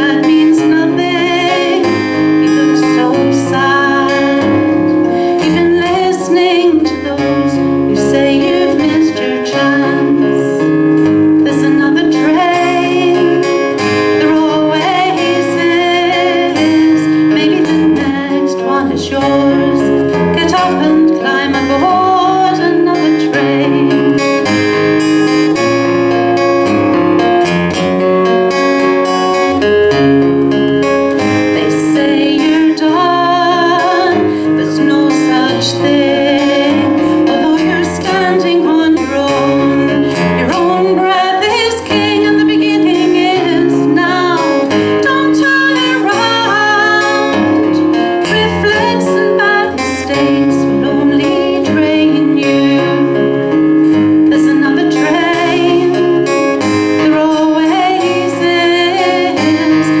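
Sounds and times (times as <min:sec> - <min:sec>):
acoustic guitar: 0:00.0 - 1:00.0
woman singing folk song: 0:00.0 - 1:00.0.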